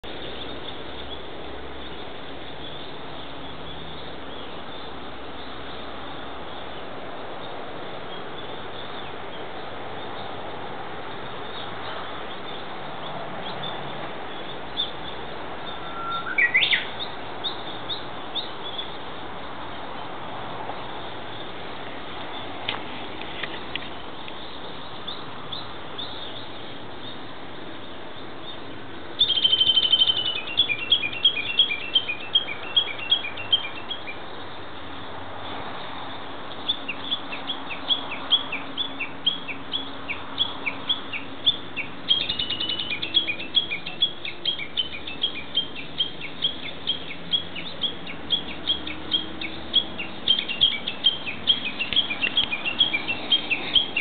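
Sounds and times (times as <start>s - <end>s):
bush warbler calling: 0.0s - 20.1s, 23.4s - 54.0s.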